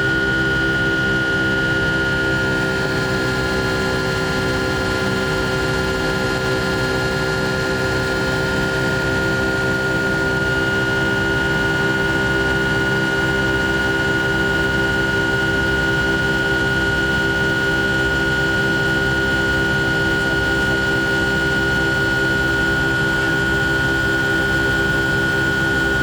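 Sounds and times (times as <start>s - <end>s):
high engine whine: 0.0s - 26.0s
jet engine roar in cabin: 0.0s - 26.0s.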